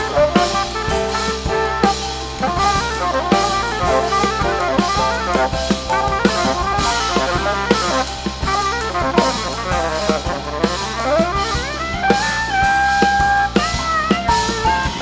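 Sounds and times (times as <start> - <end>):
busy drumming: 0.0 - 15.0
jazz band playing live: 0.0 - 15.0.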